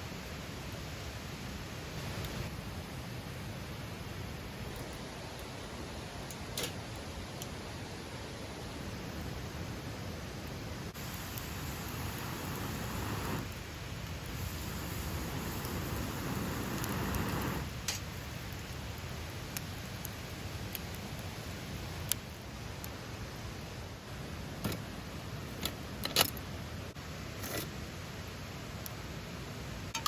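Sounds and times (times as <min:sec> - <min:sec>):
campfire burning: 0:00.3 - 0:30.0
fire crackles and pops: 0:01.9 - 0:03.2, 0:04.2 - 0:30.0.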